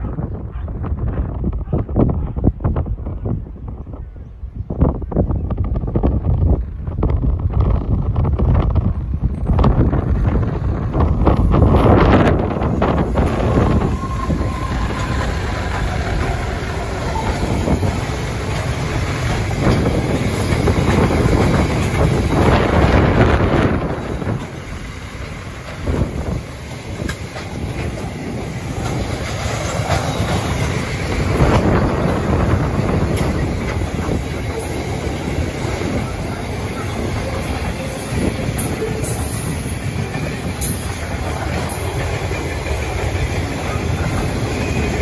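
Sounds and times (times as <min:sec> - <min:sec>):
diesel locomotives passing: 0:00.0 - 0:45.0
train wheels on rails: 0:05.0 - 0:45.0.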